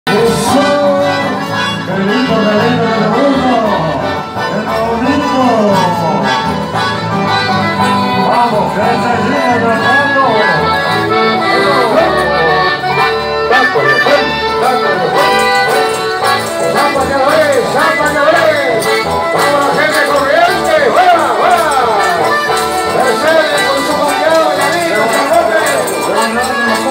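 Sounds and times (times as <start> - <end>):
accordions playing: 0.1 - 26.9
strummed guitars: 0.1 - 26.9
voices singing: 0.1 - 26.9.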